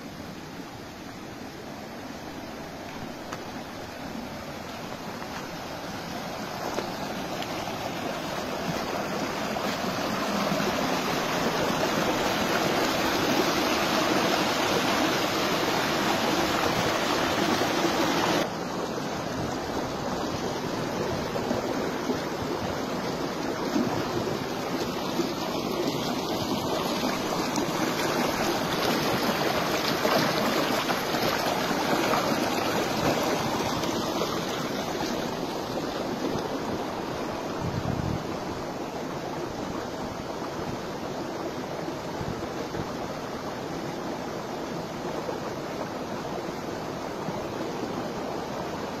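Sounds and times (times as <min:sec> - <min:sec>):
stream rushing over rocks: 0:00.0 - 0:49.0.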